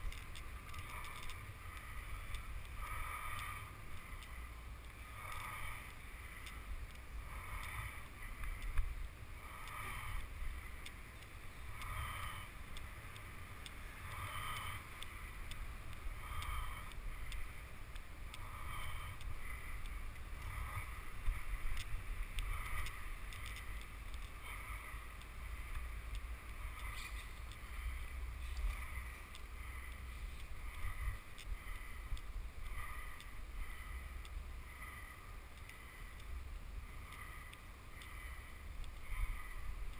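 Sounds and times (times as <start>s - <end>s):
bicycle tyre noise: 0.0s - 39.9s
wind rumble on microphone: 0.0s - 39.9s.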